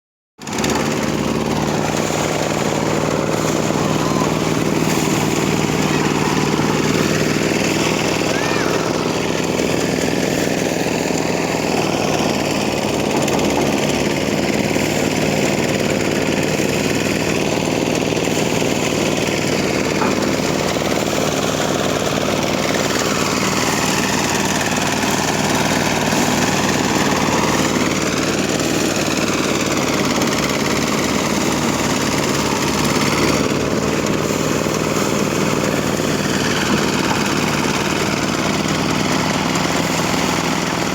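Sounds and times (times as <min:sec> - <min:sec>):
harvesting machine running: 0:00.4 - 0:40.9.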